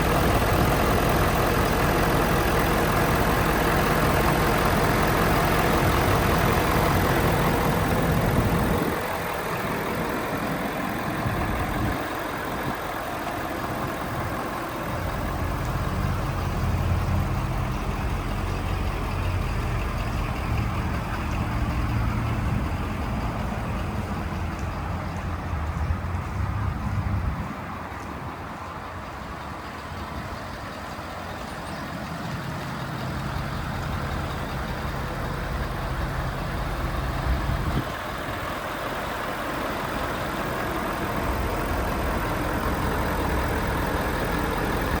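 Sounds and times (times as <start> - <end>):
pickup truck engine idling: 0.0 - 45.0.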